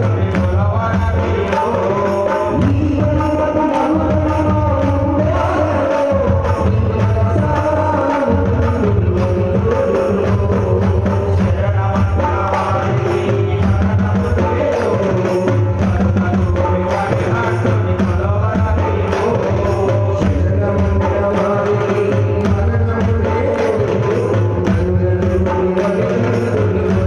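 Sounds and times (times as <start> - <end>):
devotional song melody: 0.0 - 27.0
hand drums: 0.0 - 27.0.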